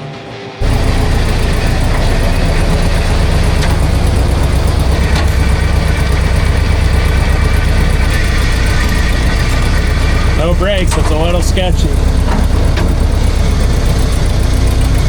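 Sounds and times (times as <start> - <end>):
engine running loudly: 0.6 - 15.0.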